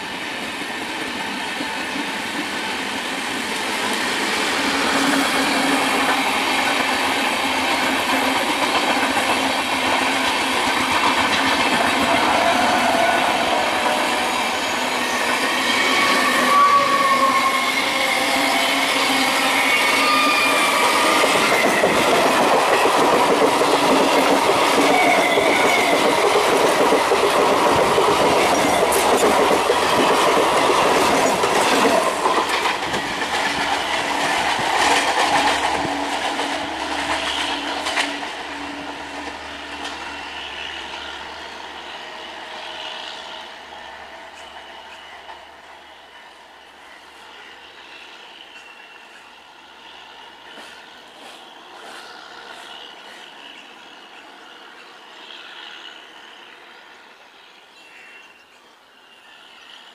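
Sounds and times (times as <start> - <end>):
electric train running past: 0.0 - 59.9.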